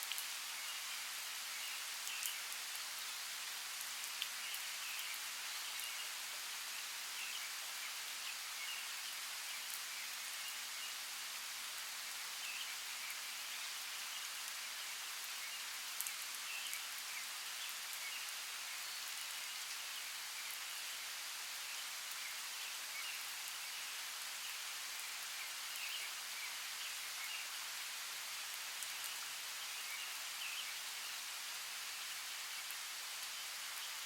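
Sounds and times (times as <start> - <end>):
rain hiss: 0.0 - 34.0.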